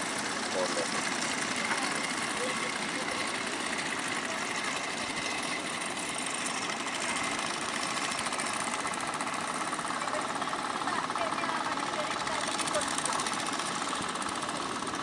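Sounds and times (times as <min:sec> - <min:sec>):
boat engines rattling: 0:00.0 - 0:15.0.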